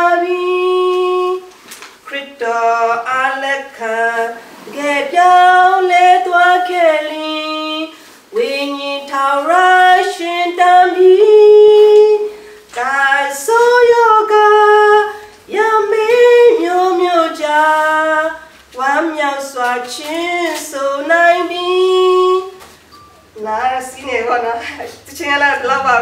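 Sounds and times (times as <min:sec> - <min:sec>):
woman singing unaccompanied: 0:00.0 - 0:26.0.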